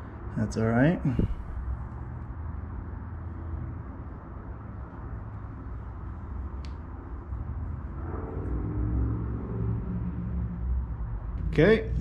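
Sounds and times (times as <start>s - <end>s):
low rumble: 1.1s - 12.0s.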